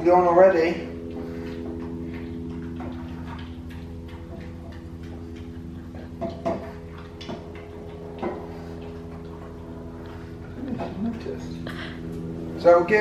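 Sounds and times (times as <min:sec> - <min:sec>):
dog eating from metal bowl: 0:00.0 - 0:13.0
low appliance hum: 0:00.0 - 0:13.0.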